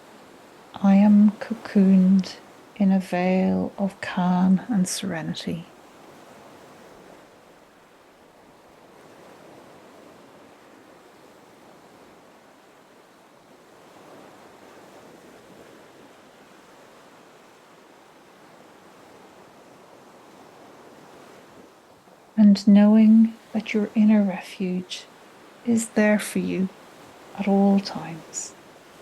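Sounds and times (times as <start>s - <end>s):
gentle ocean waves: 0.0s - 29.0s.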